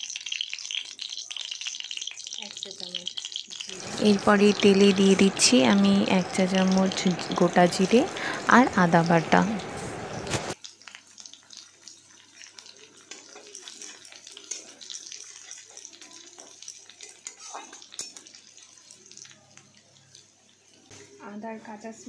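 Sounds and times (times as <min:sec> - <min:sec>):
spices sizzling in hot oil: 0:00.0 - 0:22.0.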